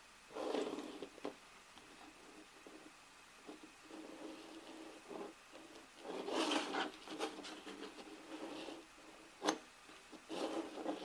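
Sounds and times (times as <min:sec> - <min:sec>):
magnets scraping on tabletop: 0:00.3 - 0:11.0.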